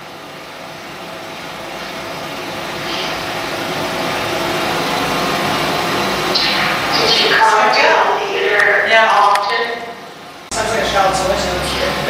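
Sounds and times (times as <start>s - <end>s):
faint engine-like hum: 0.0s - 12.0s
steady rushing noise: 1.0s - 12.0s.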